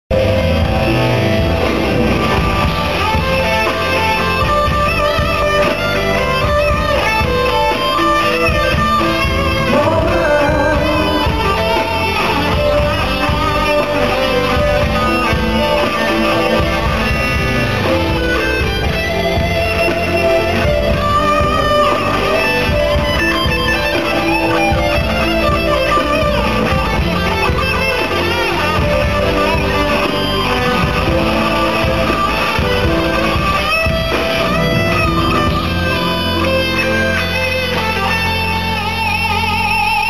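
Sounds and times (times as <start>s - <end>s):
electric guitar: 0.1s - 40.0s
live band music: 0.1s - 40.0s.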